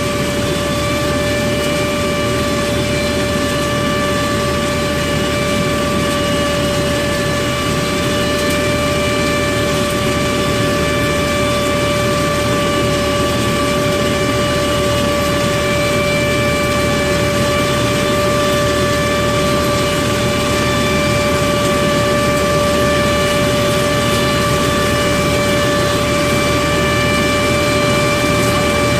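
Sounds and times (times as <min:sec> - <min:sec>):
harvester machine whine: 0:00.0 - 0:28.9.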